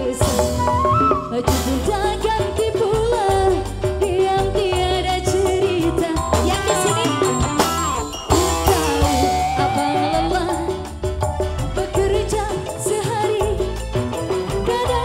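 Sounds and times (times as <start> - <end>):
woman singing into a microphone: 0.0 - 7.9, 8.7 - 15.0
bass guitar: 0.0 - 15.0
electric guitar: 0.0 - 15.0
hand drums: 0.0 - 15.0.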